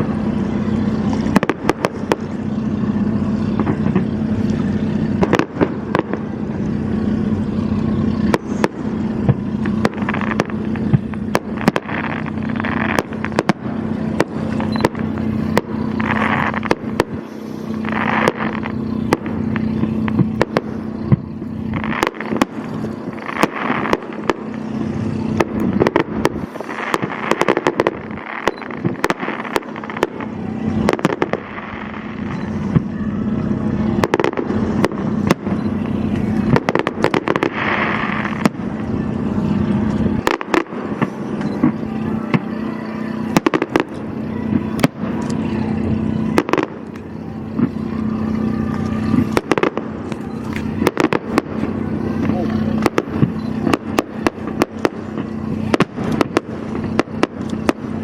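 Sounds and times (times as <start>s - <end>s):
boat engine humming: 0.0s - 58.0s
fireworks bangs: 0.0s - 58.0s
fireworks crackling: 0.0s - 58.0s.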